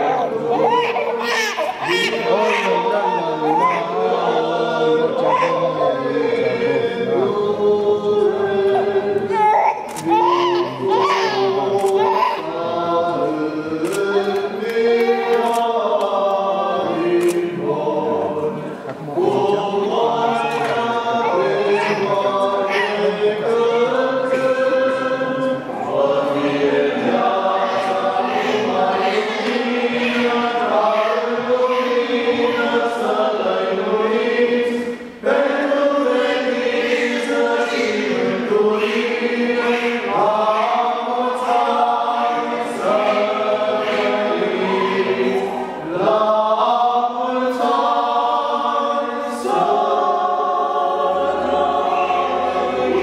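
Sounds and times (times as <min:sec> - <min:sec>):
choir singing chant: 0:00.0 - 0:53.0.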